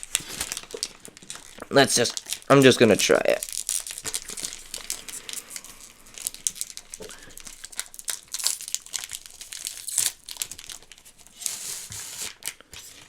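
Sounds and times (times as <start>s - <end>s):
snack bag crinkling: 0.0s - 13.0s.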